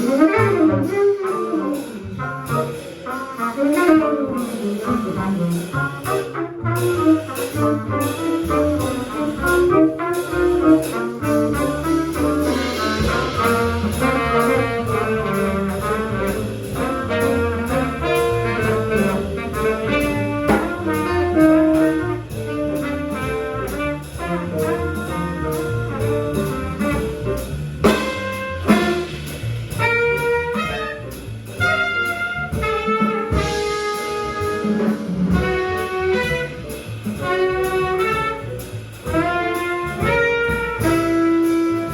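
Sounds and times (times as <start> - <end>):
jazz band playing: 0.0 - 41.9
trumpet: 0.0 - 41.9
tenor saxophone: 3.7 - 41.9.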